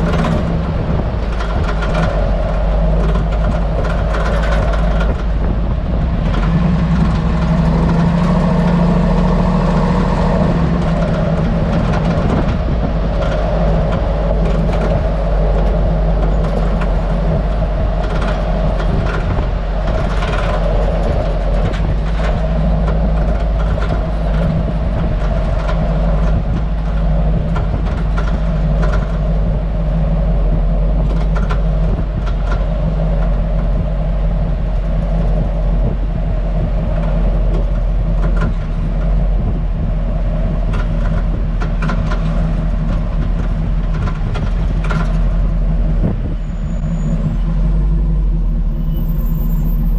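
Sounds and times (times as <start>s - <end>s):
suspension clicks and knocks: 0.0s - 48.7s
low road rumble: 0.0s - 49.9s.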